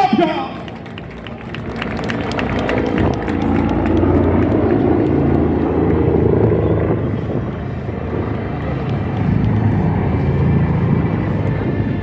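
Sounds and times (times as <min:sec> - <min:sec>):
aircraft flying past: 0:00.3 - 0:12.0.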